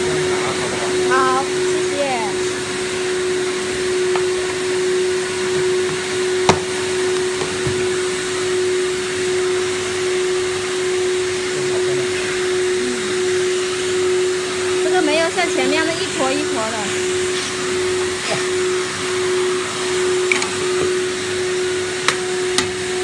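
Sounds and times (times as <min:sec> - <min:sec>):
vacuum blower running: 0:00.0 - 0:23.0.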